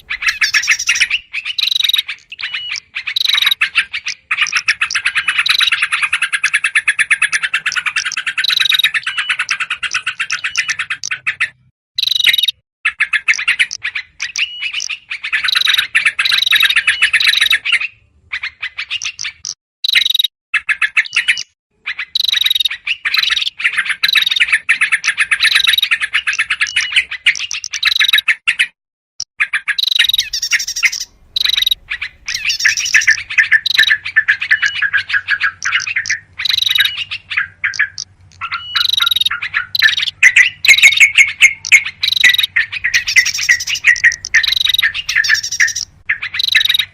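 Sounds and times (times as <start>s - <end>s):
birds chattering in alarm: 0.0s - 28.8s, 29.4s - 46.9s.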